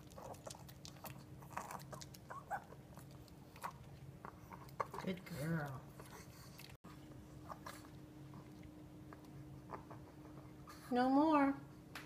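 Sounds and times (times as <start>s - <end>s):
dog chewing and crunching: 0.0s - 10.4s.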